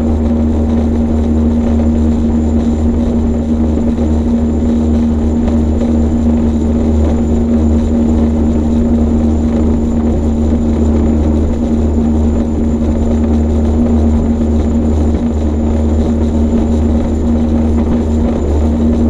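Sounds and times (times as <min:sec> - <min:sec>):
turbine engine drone: 0:00.0 - 0:19.0.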